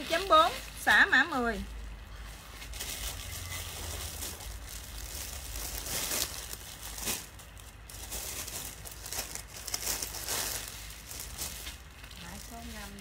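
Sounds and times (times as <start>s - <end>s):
plastic bags crinkling and rustling: 0.0s - 13.0s.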